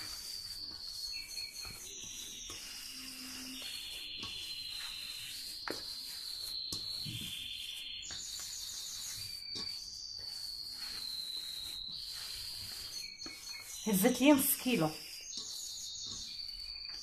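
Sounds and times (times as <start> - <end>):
hand kneading dough: 0.0 - 17.0.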